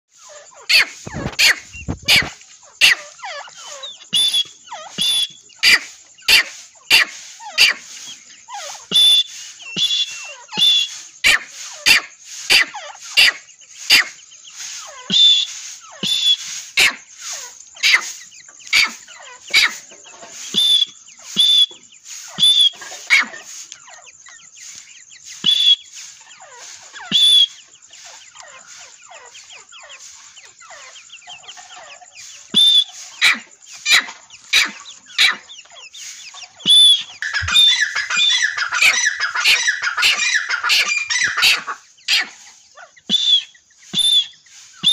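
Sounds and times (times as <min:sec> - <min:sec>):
partridges calling: 0:00.1 - 0:44.9
soft falling chirps: 0:00.2 - 0:44.9.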